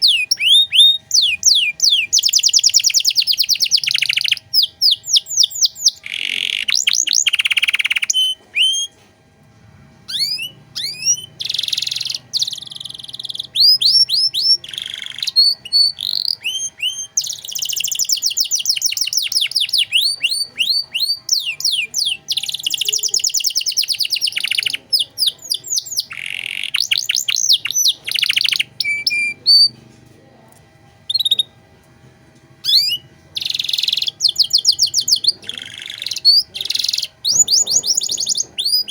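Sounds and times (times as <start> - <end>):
canary singing: 0.0 - 9.0, 10.0 - 29.9, 31.1 - 31.6, 32.6 - 38.9.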